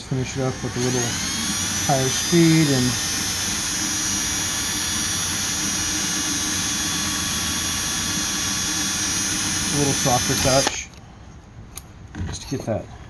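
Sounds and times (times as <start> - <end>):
drill filing chain high whine: 0.0 - 10.7.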